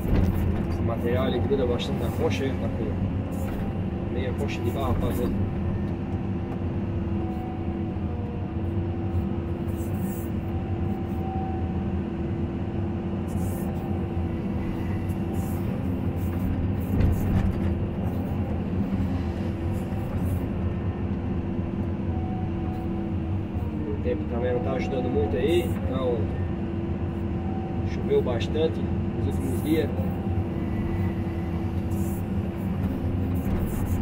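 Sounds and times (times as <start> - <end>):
excavator engine and hydraulics: 0.0 - 34.0.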